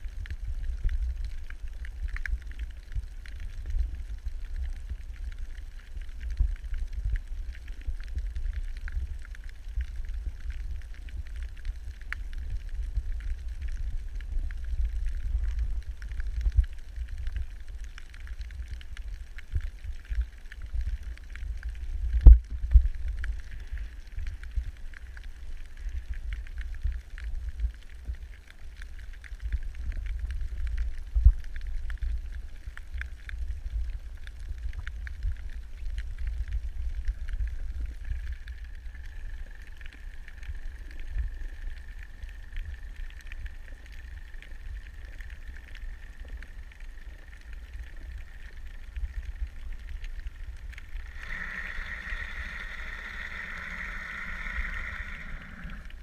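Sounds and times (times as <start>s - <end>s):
faint crackling hiss: 0.0s - 56.0s
underwater water rumble: 0.0s - 56.0s.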